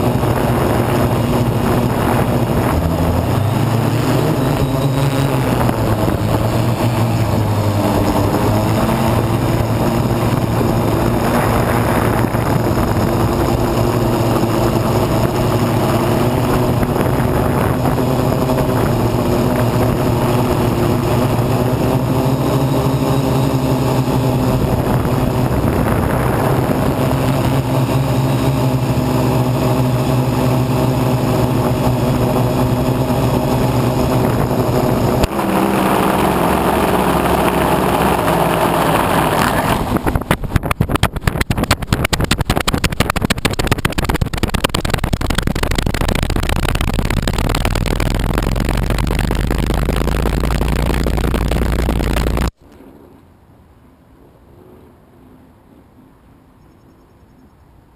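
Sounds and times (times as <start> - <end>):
multirotor motors humming: 0.0 - 52.6.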